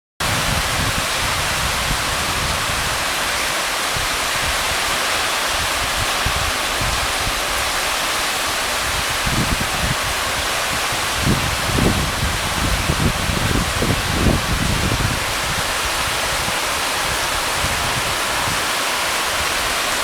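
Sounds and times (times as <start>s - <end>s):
heavy rain hiss: 0.2s - 20.0s.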